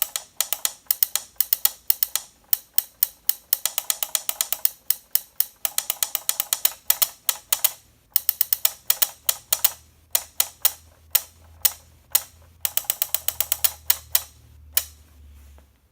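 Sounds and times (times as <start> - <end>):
sharp mechanical clicks: 0.0 - 15.0.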